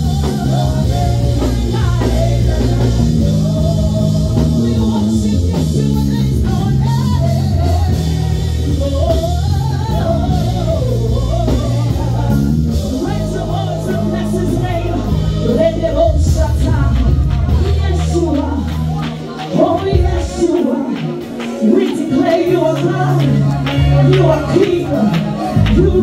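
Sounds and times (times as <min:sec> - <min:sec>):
band playing steady chords: 0:00.0 - 0:26.0.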